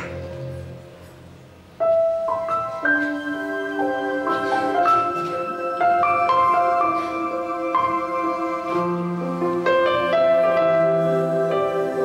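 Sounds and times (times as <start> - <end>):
keyboard piano chords: 0.0 - 12.0.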